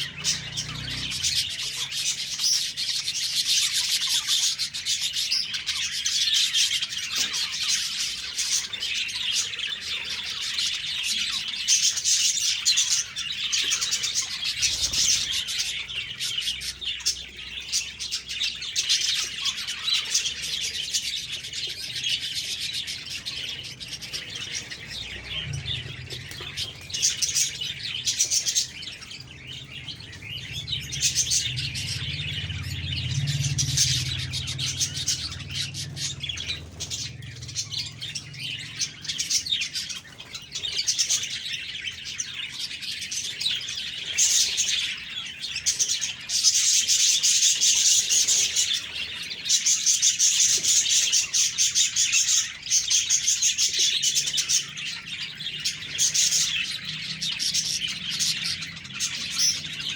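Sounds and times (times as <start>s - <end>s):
budgies chirping and chattering: 0.0s - 59.9s.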